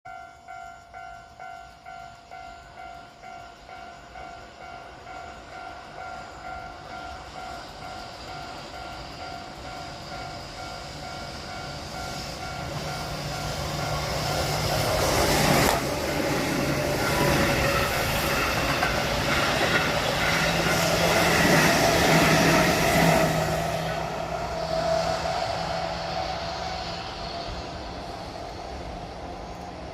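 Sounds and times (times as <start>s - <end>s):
express train passing loudly: 0.1s - 29.9s.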